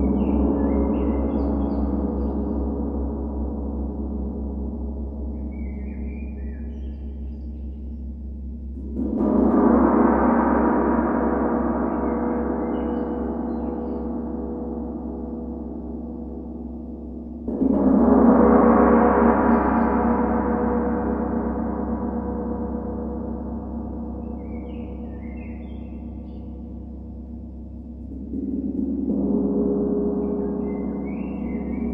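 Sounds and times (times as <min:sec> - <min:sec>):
low drone: 0:00.0 - 0:31.9.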